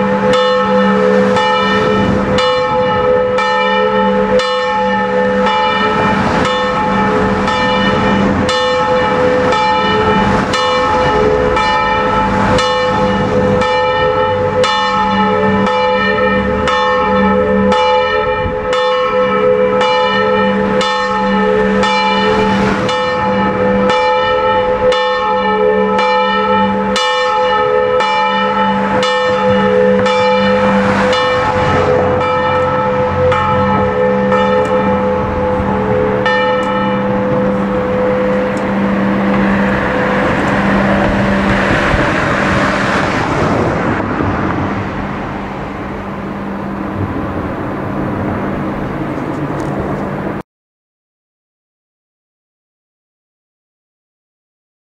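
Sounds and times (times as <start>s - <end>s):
church bells ringing: 0.0s - 50.4s.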